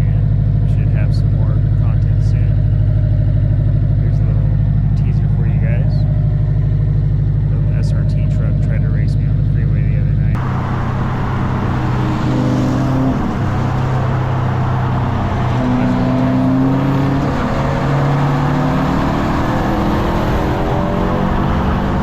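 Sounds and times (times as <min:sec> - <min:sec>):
turbocharged car engine running: 0:00.0 - 0:22.0.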